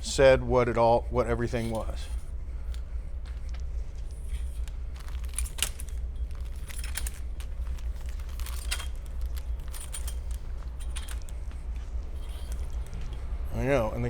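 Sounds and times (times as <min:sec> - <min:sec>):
steady low hum: 0:00.0 - 0:14.0
light clicks and rattles: 0:01.5 - 0:14.0.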